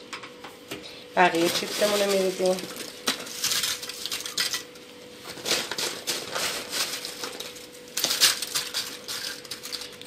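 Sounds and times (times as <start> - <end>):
chips crackling into glass dish: 1.2 - 4.8, 5.4 - 10.0.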